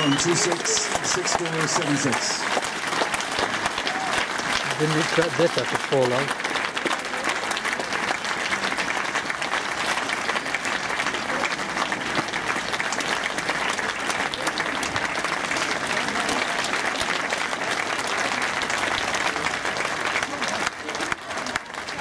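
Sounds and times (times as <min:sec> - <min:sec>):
crowd applauding: 0:00.0 - 0:22.0.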